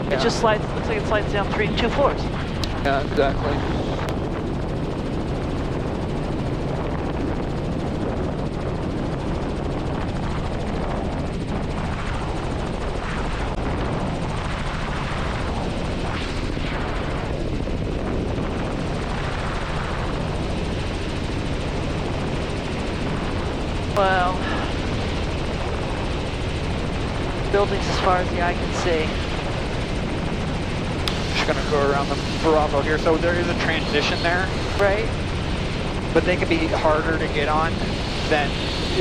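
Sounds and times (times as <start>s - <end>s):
helicopter engine and rotors: 0.0s - 39.0s.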